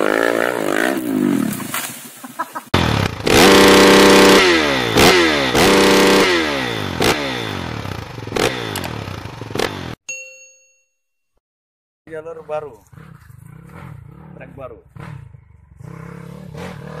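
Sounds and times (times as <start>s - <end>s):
motorcycle engine revving: 0.0s - 1.8s, 2.7s - 10.0s, 12.2s - 17.0s.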